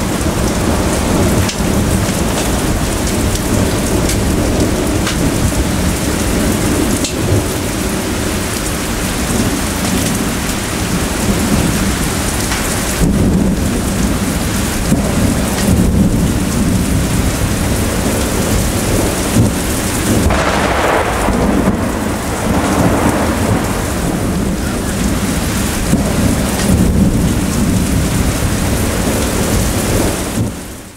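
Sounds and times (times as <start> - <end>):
rain pouring: 0.0 - 30.9
thunder rumbling: 0.0 - 30.9.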